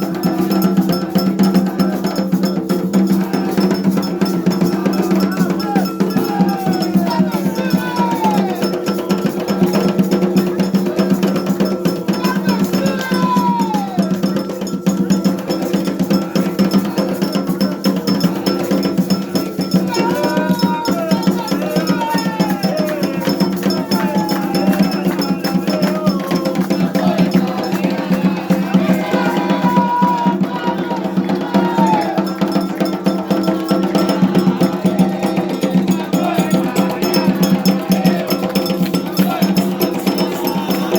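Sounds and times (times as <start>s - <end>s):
clanging metal bell: 0.0s - 30.4s, 31.5s - 40.9s
hand drums: 0.0s - 40.9s.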